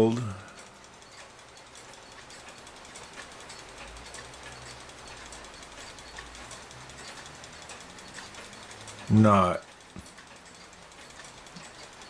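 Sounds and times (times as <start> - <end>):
wind-up clocks ticking: 0.0 - 12.0.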